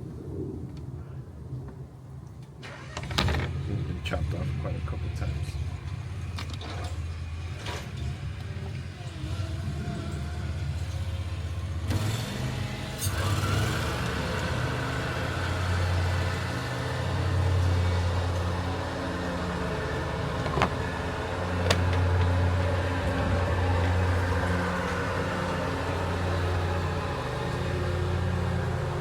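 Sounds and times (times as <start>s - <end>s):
engine idling: 2.7s - 29.0s.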